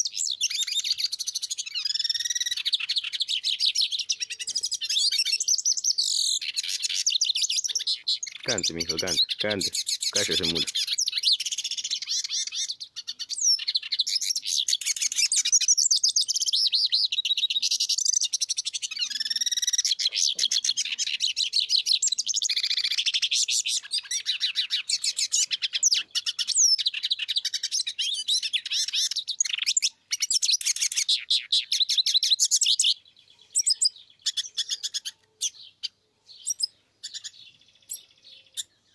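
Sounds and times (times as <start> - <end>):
short bird chirps: 0.0 - 18.3, 18.9 - 38.9.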